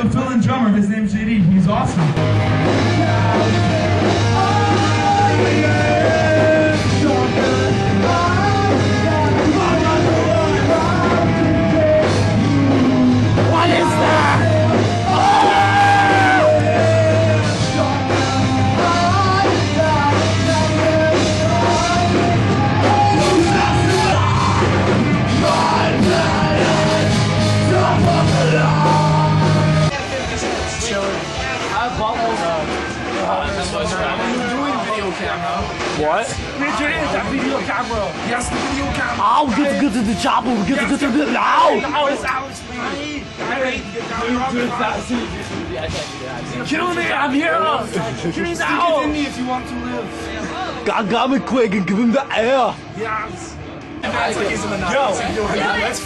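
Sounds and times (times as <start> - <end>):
loud rock music with singing: 0.0 - 56.0.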